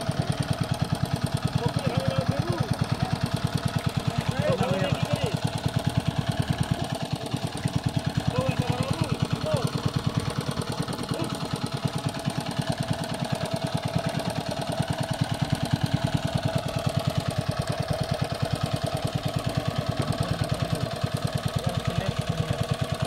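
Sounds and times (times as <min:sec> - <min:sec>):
small engine chugging: 0:00.0 - 0:23.0.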